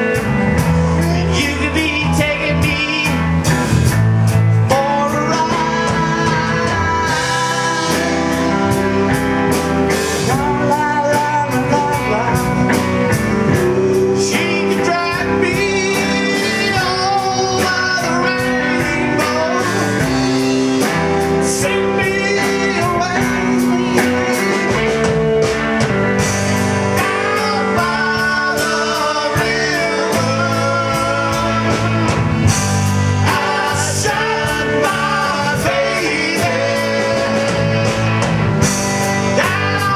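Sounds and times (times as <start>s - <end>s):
person singing: 0.0s - 3.4s, 4.6s - 25.1s, 26.9s - 39.9s
electric guitar: 0.0s - 39.9s
steady drum beat: 0.0s - 39.9s.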